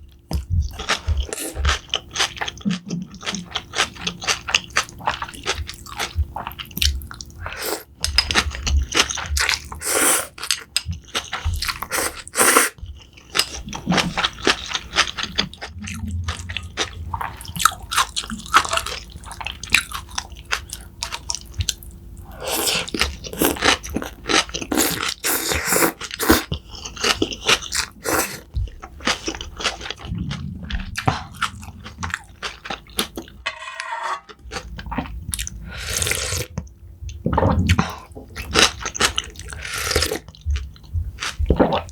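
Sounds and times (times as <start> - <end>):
person chewing crunchy food: 0.1 - 41.9.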